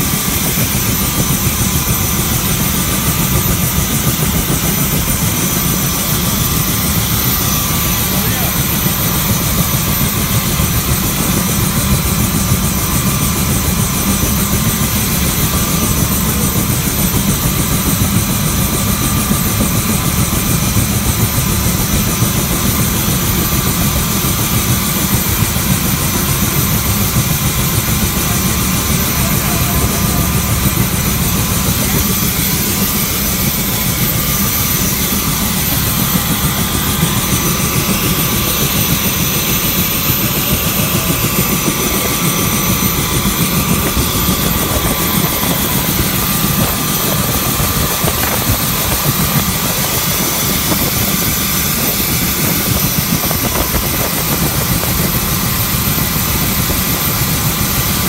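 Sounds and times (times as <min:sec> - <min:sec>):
constant high whine: 0:00.0 - 0:58.0
helicopter engines and rotor: 0:00.0 - 0:58.0.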